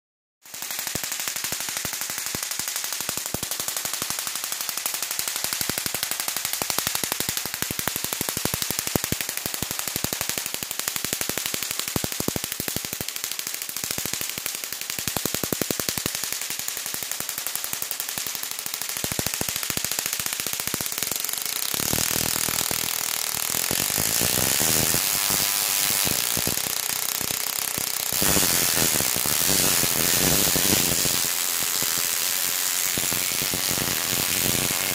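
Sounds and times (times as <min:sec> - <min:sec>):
tesla coil arcs crackling: 0:00.5 - 0:34.9.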